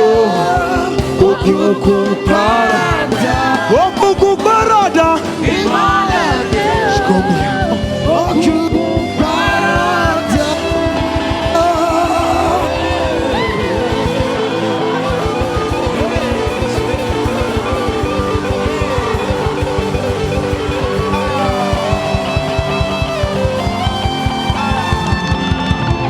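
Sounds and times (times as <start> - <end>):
instrumental worship music: 0.0 - 26.0.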